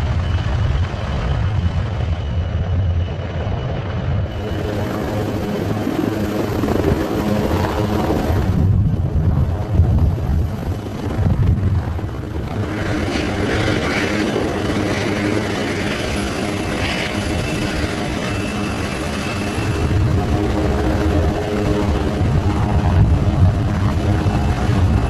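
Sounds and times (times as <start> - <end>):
helicopter rotor and engine noise: 0.0 - 25.0
high engine whine: 0.0 - 25.0.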